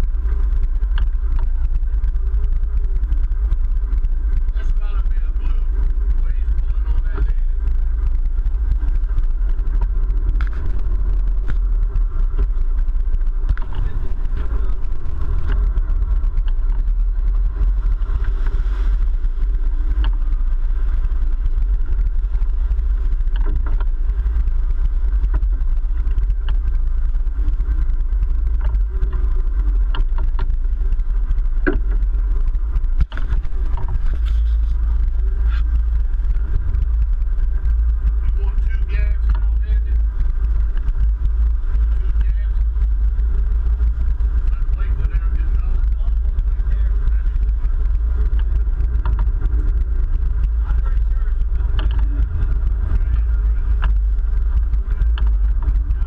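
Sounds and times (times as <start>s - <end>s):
boat engines running: 0.0s - 56.0s
wind rumble on microphone: 0.0s - 56.0s.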